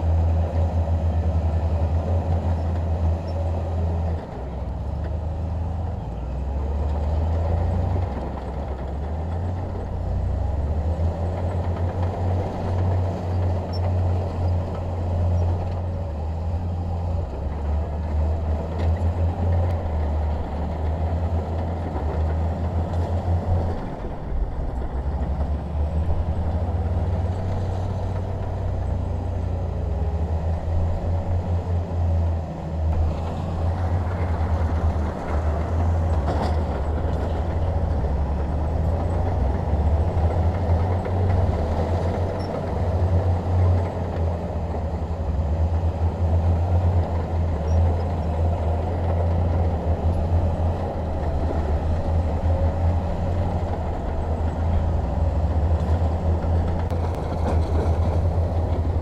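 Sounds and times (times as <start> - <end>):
bulldozer diesel engine rumbling: 0.0 - 59.0.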